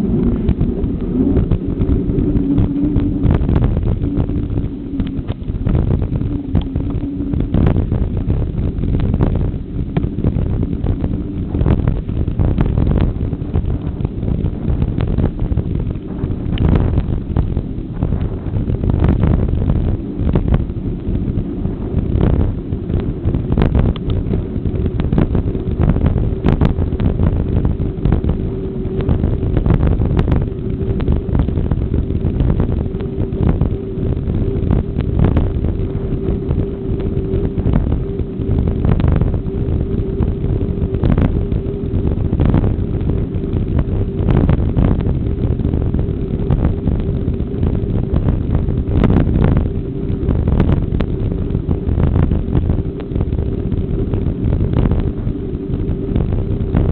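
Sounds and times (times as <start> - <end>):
steady drone: 0.0 - 56.9
wind rushing over microphone: 0.0 - 56.9.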